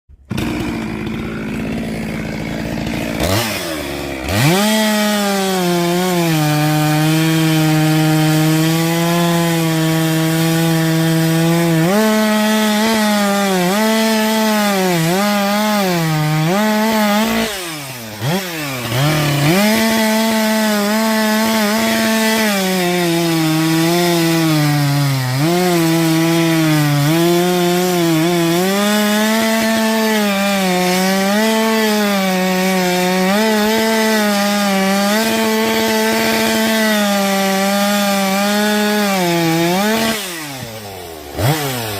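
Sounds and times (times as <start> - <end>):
chainsaw cutting wood: 0.1 - 41.9.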